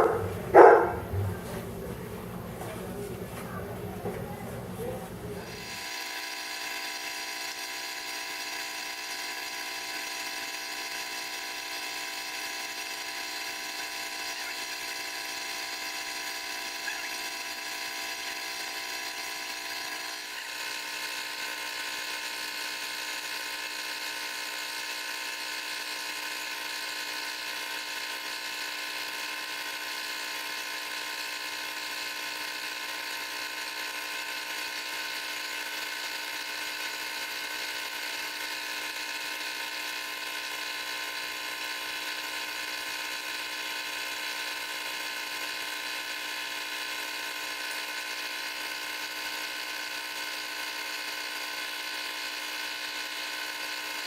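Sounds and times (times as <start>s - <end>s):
small electric motor whine: 0.0s - 2.4s, 4.4s - 54.0s.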